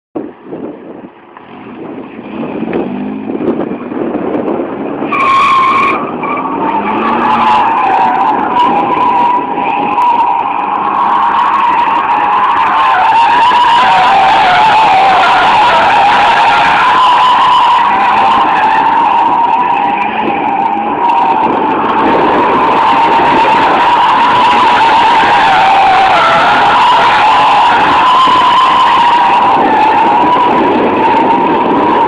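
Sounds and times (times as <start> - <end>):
car engine revving hard: 2.2 - 32.0
tyres squealing: 5.1 - 32.0.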